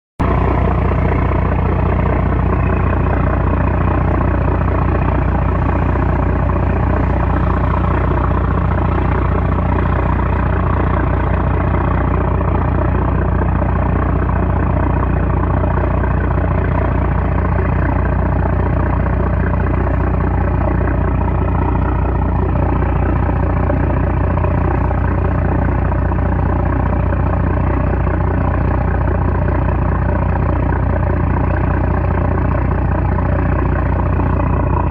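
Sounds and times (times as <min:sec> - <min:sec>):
boat diesel engine droning: 0:00.2 - 0:34.9.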